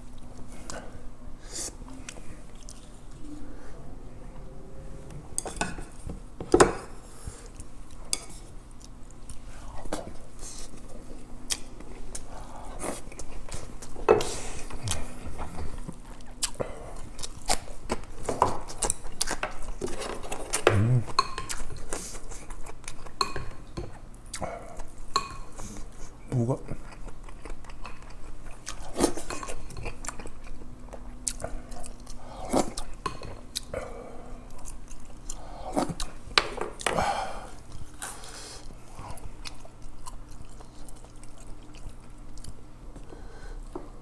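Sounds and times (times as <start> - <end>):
food being chewed: 1.6 - 3.2, 5.4 - 44.0.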